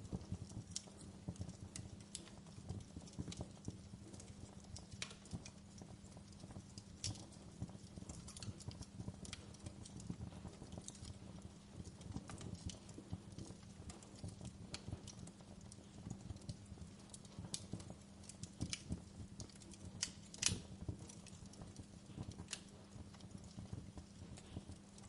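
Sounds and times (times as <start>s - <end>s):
low steady hum: 0.0s - 25.0s
wood fire crackling: 0.0s - 25.0s.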